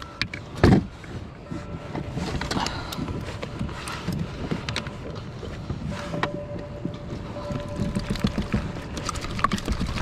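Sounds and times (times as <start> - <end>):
water: 0.0 - 10.0.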